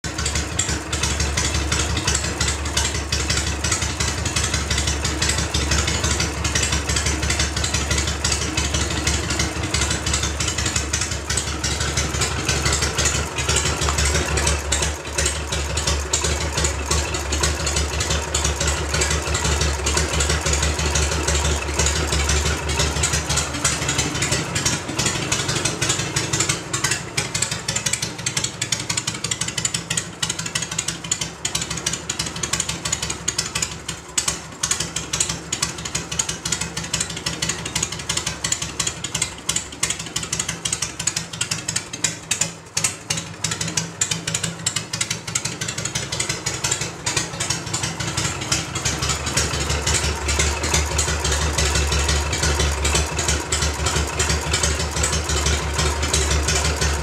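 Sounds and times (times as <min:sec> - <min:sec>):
motorcycle engine idling: 0:00.0 - 0:57.0
belt drive and clutch spinning: 0:00.1 - 0:30.6, 0:31.6 - 0:57.0.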